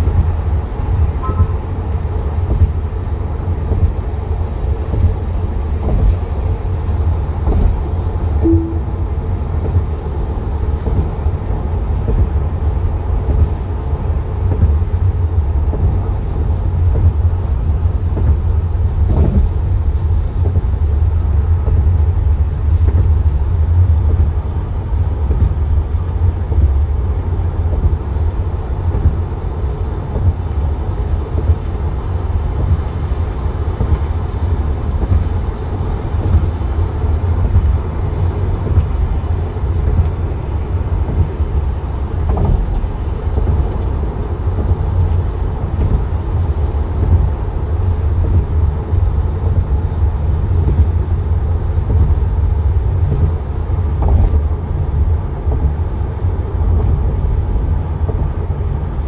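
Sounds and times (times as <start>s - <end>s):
car interior road noise: 0.0s - 59.0s.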